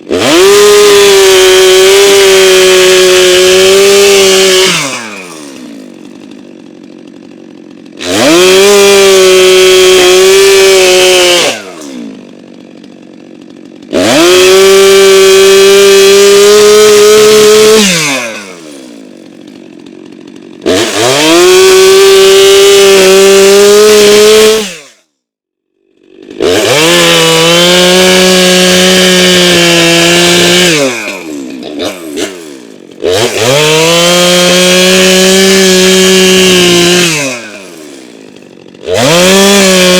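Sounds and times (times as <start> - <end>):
chainsaw revving and idling: 0.0 - 25.1, 25.7 - 39.9.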